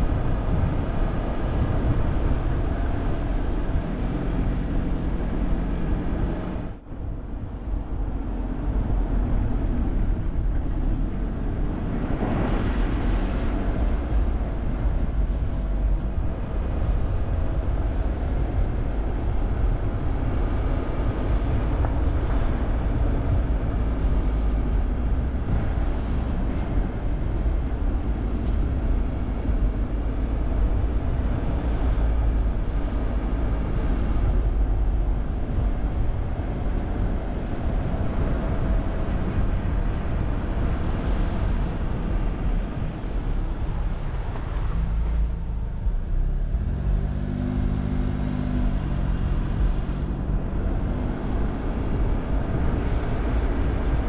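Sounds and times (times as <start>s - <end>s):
car road rumble: 0.0s - 54.0s
engine hum: 0.0s - 54.0s.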